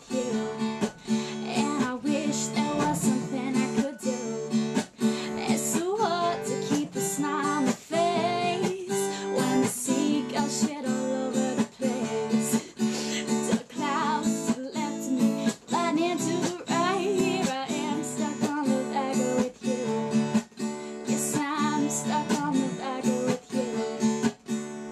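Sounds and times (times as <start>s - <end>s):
woman singing: 0.0s - 24.4s
acoustic guitar strumming: 0.0s - 24.9s.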